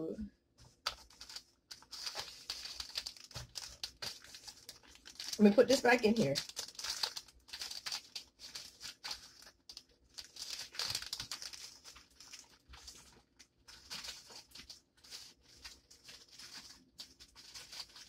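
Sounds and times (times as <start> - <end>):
packaging wrap crinkling: 0.6 - 18.0.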